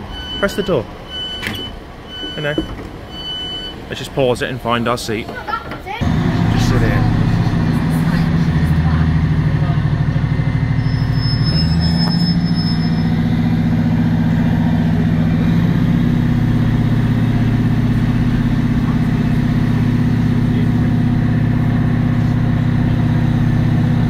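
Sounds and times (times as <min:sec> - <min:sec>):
train diesel engine running: 0:00.0 - 0:24.0.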